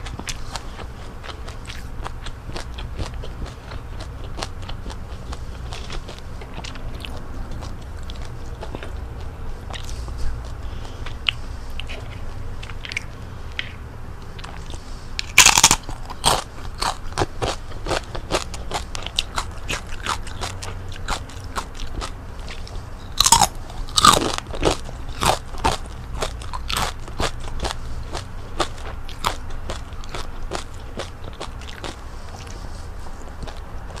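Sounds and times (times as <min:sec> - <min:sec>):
crackling chewing: 0:00.0 - 0:34.0
crunching fried chicken skin: 0:00.0 - 0:34.0.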